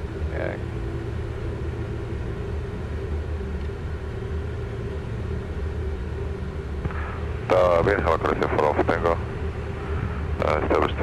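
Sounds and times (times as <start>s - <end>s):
faint steady hum: 0.0s - 11.0s
jet cockpit rumble: 0.0s - 11.0s.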